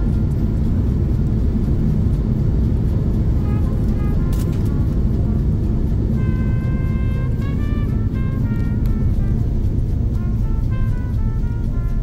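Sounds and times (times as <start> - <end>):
low aircraft cabin rumble: 0.0 - 12.0.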